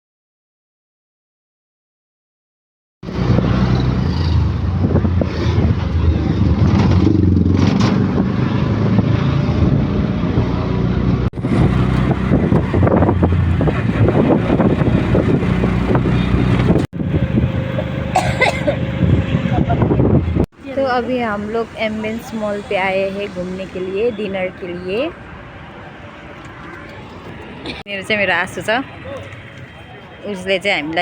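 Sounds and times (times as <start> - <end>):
road vehicle rumble: 3.0 - 31.0.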